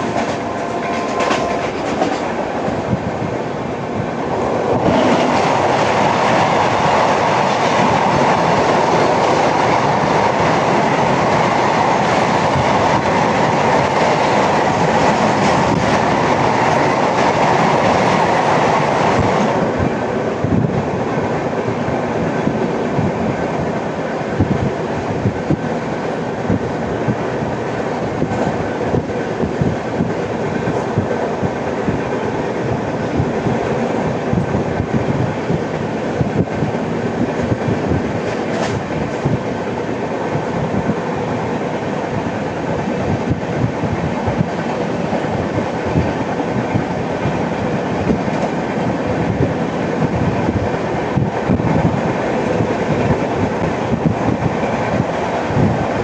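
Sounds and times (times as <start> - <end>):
train wheels rushing on track: 0.0 - 56.0.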